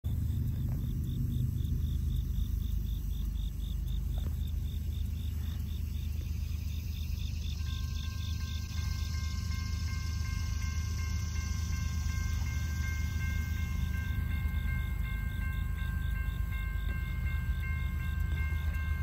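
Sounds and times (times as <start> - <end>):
low rumble: 0.0 - 19.0
insects chirping: 0.1 - 19.0.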